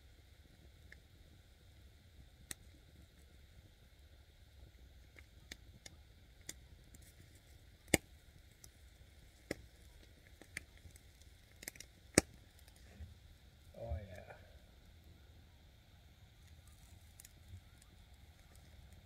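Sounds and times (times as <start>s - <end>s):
campfire crackling: 0.0s - 19.0s
sharp pops from burning sticks: 0.5s - 15.0s, 16.3s - 19.0s.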